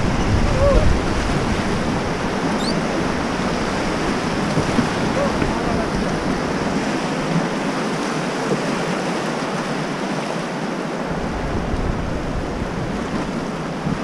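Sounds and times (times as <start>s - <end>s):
wind rumble on microphone: 0.0s - 9.0s, 11.0s - 14.0s
river rapid rushing: 0.0s - 14.0s.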